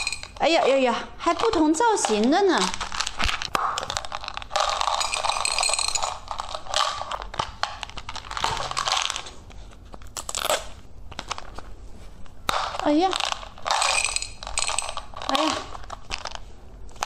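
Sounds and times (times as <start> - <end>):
candies clattering onto a plate: 0.0 - 9.4, 12.4 - 17.0.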